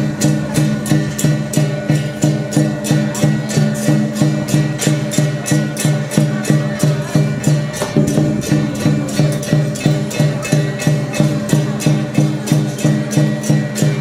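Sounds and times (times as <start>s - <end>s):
cymbal crashes: 0.0s - 14.0s
drums beating: 0.0s - 14.0s
gongs: 0.0s - 14.0s.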